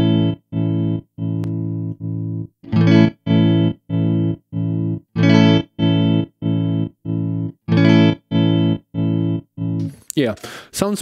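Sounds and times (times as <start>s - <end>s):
electric guitar chords with tremolo: 0.0s - 10.0s.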